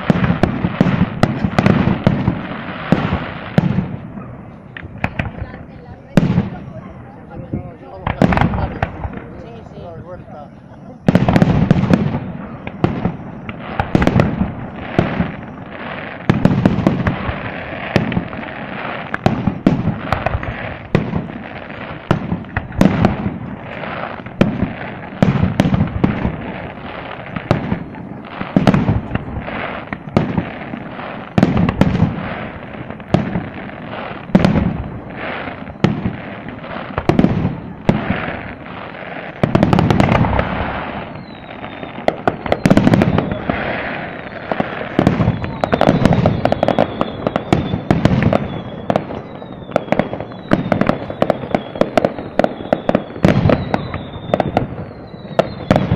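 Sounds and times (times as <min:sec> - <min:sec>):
firework shells bursting: 0:00.0 - 0:06.8, 0:07.4 - 0:55.9.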